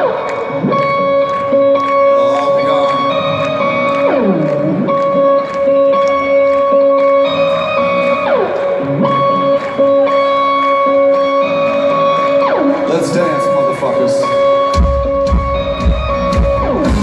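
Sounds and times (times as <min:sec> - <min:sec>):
electric guitar with pitch dives: 0:00.0 - 0:17.0.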